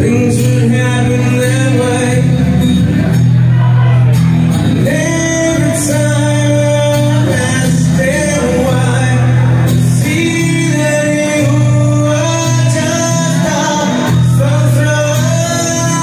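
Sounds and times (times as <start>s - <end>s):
man singing: 0.0s - 16.0s
strummed acoustic guitar: 0.0s - 16.0s.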